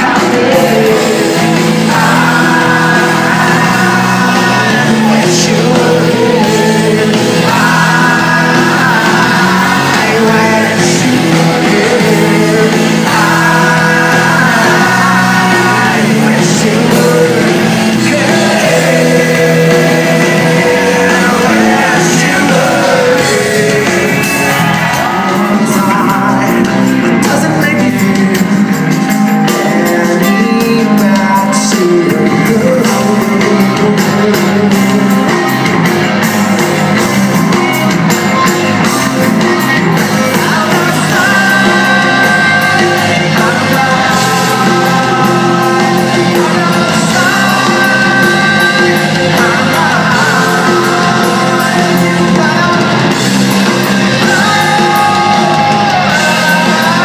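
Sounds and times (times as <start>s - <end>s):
man singing: 0.0s - 35.7s, 37.4s - 57.0s
rock band playing live: 0.0s - 57.0s.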